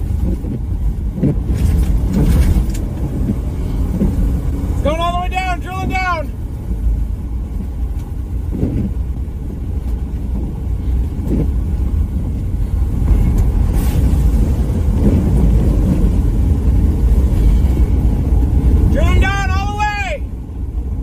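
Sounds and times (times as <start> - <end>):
vehicle road and engine rumble: 0.0 - 21.0.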